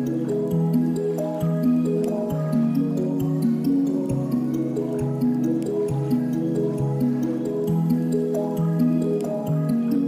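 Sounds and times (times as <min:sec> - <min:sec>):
gentle melody of held notes: 0:00.0 - 0:10.0
light ticking beat: 0:00.0 - 0:10.0.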